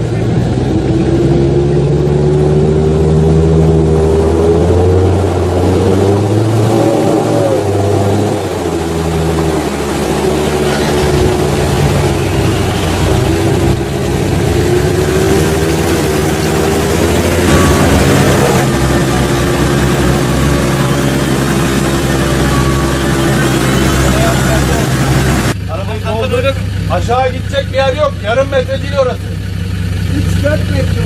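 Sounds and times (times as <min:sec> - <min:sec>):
off-road vehicle engine running: 0:00.0 - 0:31.0.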